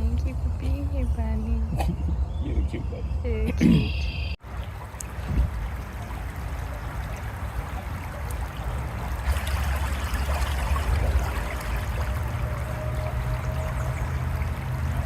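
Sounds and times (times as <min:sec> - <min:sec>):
brook babbling: 0:02.4 - 0:15.0.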